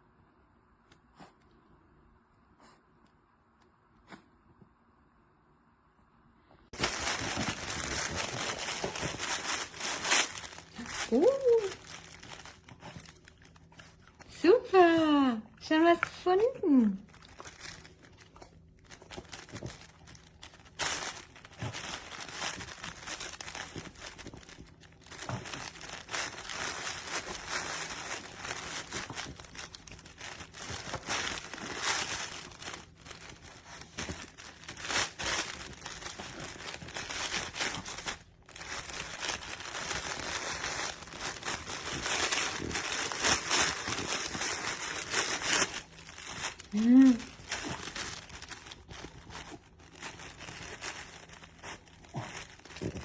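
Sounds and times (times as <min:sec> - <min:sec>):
fabric toy crinkling: 0:06.7 - 0:53.0.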